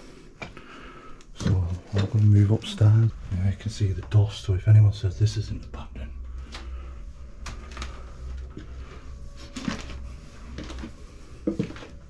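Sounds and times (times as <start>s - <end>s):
low steady rumble: 1.4s - 12.0s.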